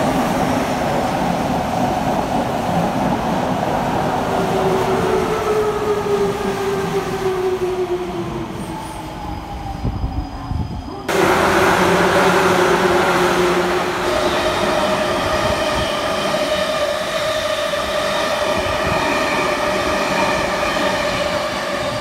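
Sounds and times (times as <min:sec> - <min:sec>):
electric train running past: 0:00.0 - 0:22.0.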